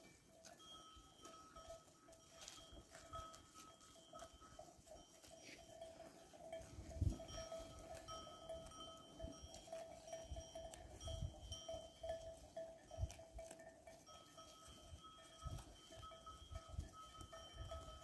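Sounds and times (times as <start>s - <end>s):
livestock bells clanking: 0.0s - 18.0s.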